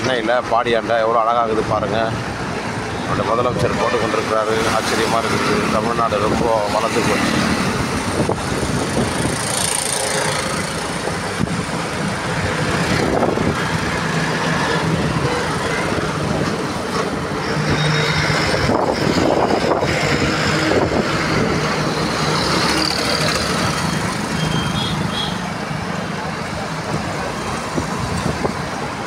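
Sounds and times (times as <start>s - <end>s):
busy road traffic: 0.0s - 29.0s.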